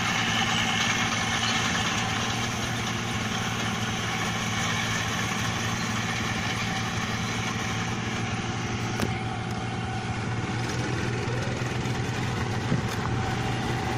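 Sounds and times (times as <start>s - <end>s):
combine harvester engine running: 0.0s - 13.9s.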